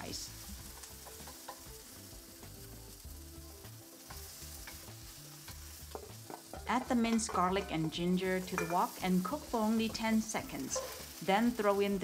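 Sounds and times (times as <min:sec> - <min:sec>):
vegetables sizzling in hot oil: 0:00.0 - 0:12.0
spatula scraping wok: 0:00.3 - 0:12.0.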